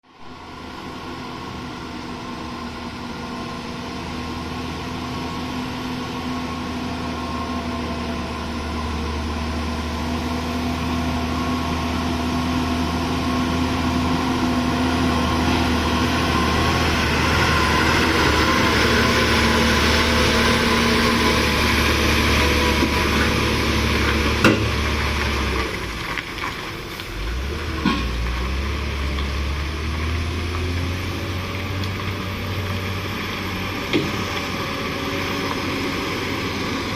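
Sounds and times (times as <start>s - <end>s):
truck diesel engine running: 0.2s - 36.9s.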